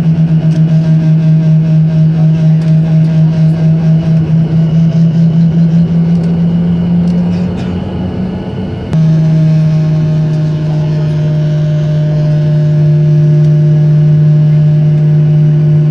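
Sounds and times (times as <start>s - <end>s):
airliner cabin low hum: 0.0s - 15.9s.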